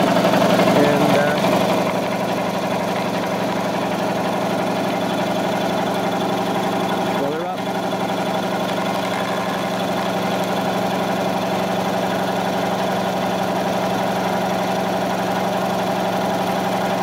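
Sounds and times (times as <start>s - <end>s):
electric air compressor running: 0.0s - 17.0s.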